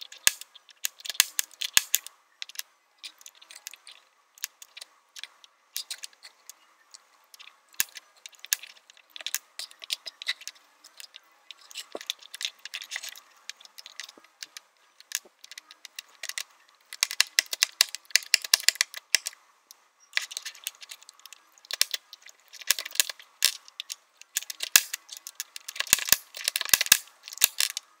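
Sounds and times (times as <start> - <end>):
plastic parts clicking and rattling: 0.0 - 28.0.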